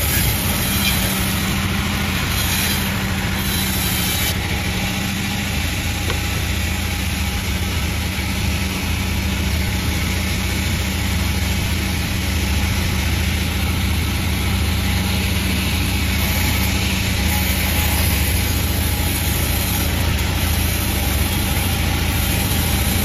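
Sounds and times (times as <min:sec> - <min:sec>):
sawmill machine droning: 0:00.0 - 0:23.0.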